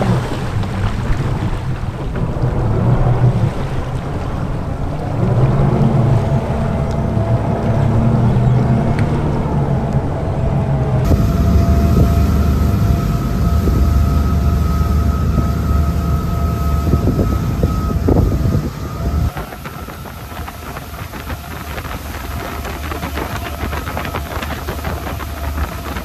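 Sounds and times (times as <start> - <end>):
boat engines running: 0.0 - 26.0
wind and water noise: 0.0 - 26.0
steady whine: 4.3 - 26.0.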